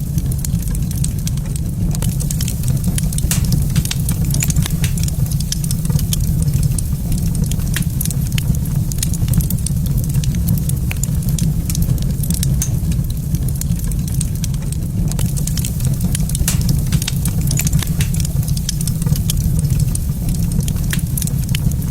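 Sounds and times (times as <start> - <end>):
fire pops and snaps: 0.0 - 21.9
low rumble: 0.0 - 21.9
wood fire crackling: 0.0 - 21.9.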